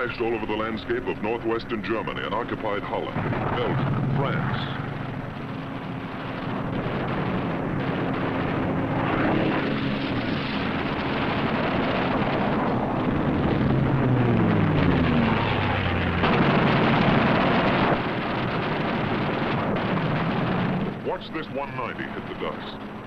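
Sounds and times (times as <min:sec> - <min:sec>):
noisy rush: 0:00.0 - 0:23.0
piston aircraft engines droning: 0:00.0 - 0:23.0.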